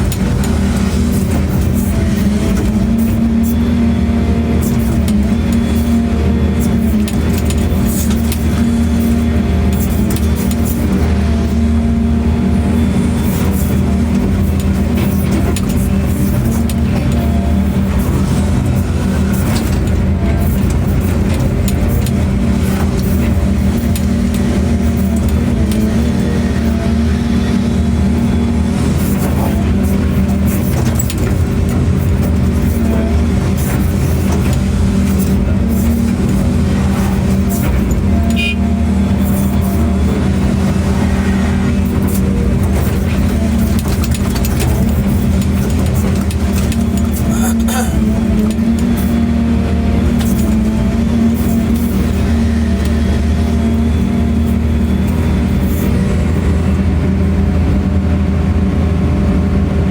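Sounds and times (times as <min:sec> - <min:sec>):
heavy machinery engine droning: 0:00.0 - 0:59.9.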